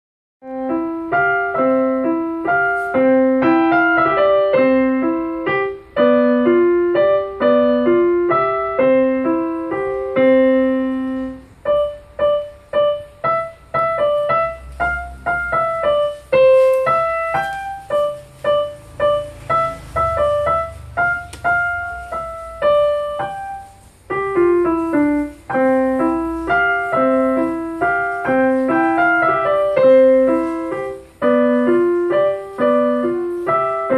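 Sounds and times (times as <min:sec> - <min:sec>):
piano melody: 0:00.4 - 0:33.9.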